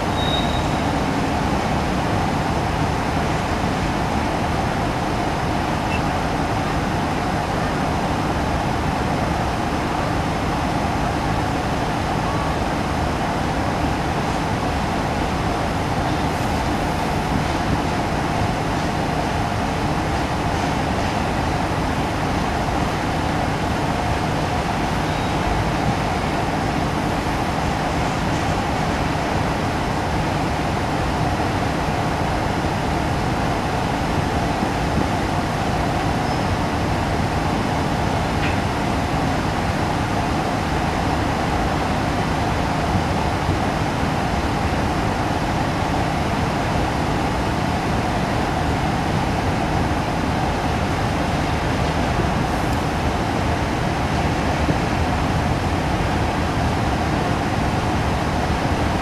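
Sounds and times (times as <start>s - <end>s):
freight train rolling on track: 0.0s - 59.0s.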